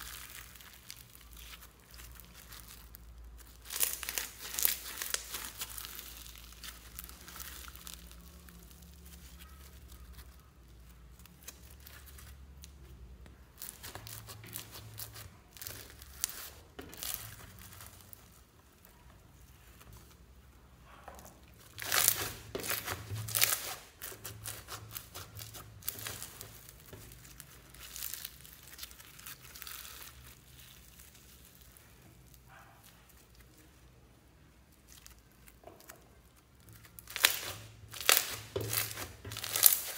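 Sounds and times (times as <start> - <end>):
slime crackling and popping: 0.0 - 19.8, 21.4 - 33.6, 34.6 - 39.9.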